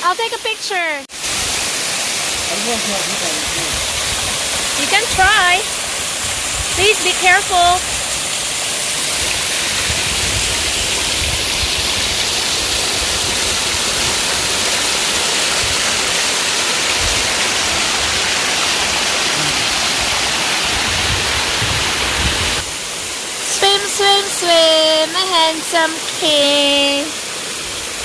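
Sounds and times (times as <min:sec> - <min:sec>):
waterfall rushing: 0:00.1 - 0:28.0.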